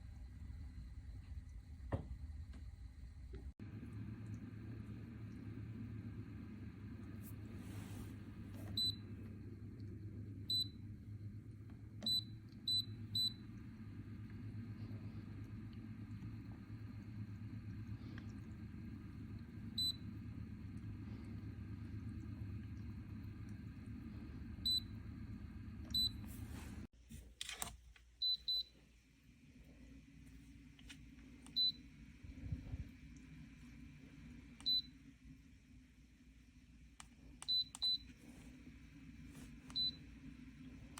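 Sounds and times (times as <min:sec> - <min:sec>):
low steady rumble: 0:00.0 - 0:26.9, 0:29.2 - 0:40.9
steady low hum: 0:00.0 - 0:27.6, 0:28.2 - 0:40.9.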